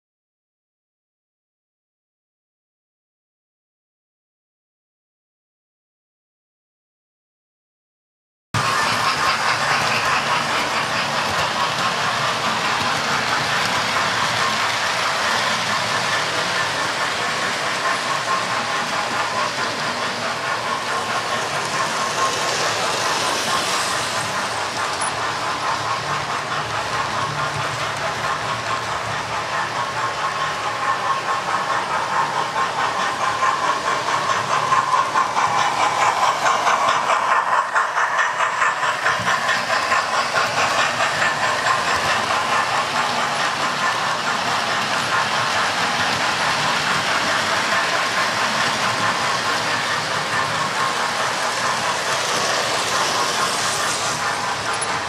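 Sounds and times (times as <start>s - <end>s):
wheels clicking over rail joints: 8.6s - 55.0s.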